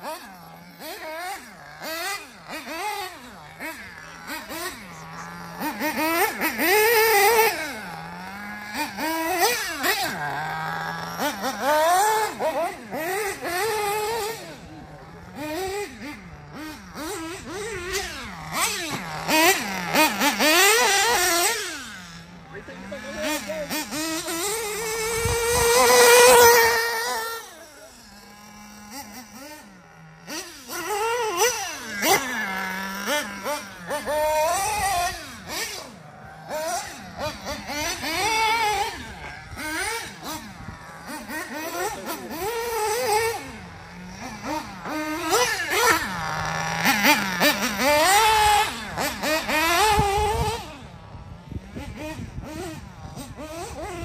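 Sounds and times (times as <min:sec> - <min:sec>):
model car engine revving: 0:00.0 - 0:54.0.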